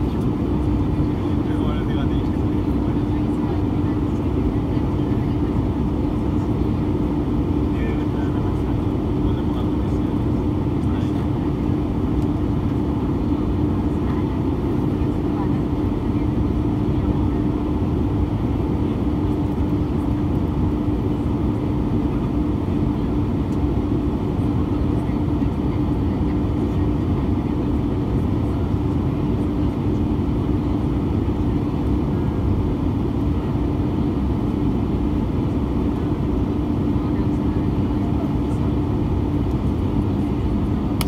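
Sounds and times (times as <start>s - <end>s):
aircraft engine drone: 0.0s - 41.0s.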